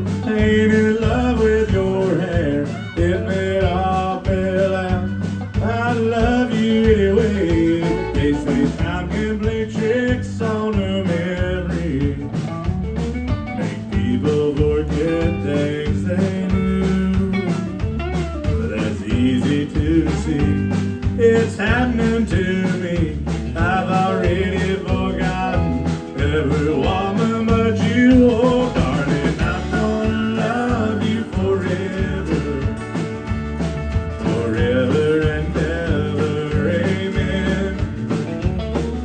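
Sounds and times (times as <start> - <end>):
live country band playing: 0.0 - 39.0.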